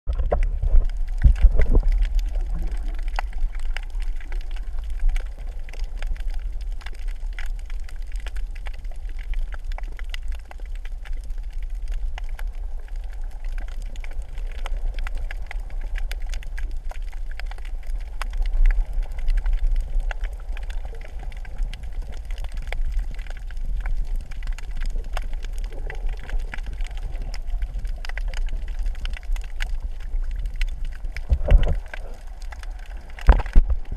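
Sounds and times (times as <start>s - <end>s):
faint crackling clicks: 0.1s - 33.9s
underwater water rumble: 0.1s - 33.9s.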